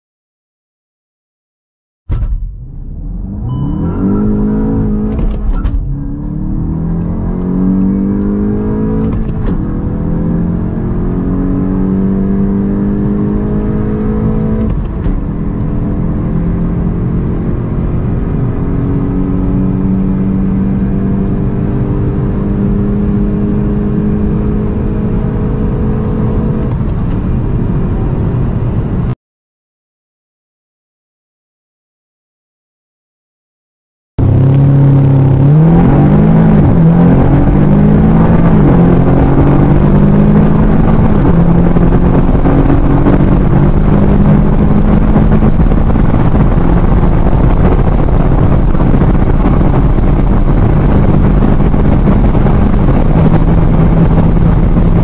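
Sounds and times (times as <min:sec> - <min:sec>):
car engine accelerating: 0:02.3 - 0:29.1, 0:34.2 - 0:55.0.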